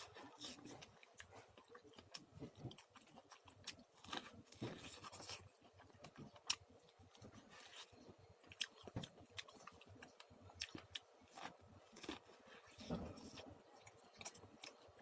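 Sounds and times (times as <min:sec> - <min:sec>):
popcorn being chewed: 0:00.0 - 0:15.0.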